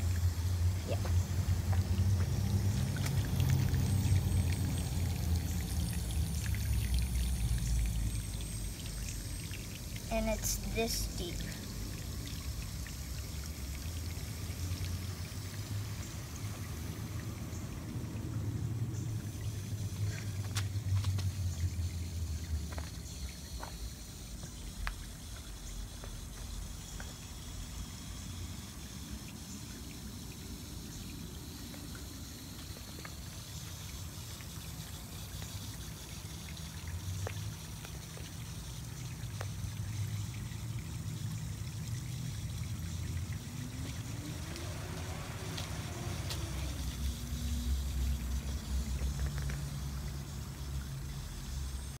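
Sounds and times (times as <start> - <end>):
water trickling through soil channels: 0.0 - 52.0.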